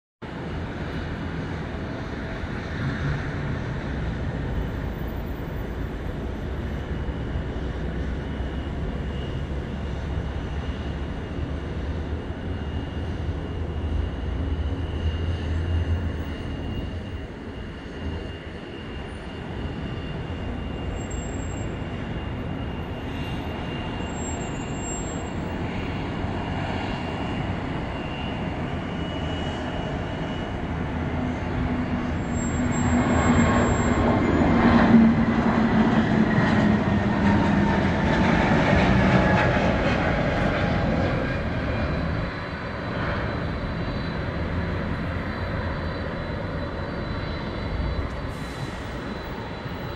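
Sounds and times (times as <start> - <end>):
distant jet engine rumble: 0.2 - 49.9.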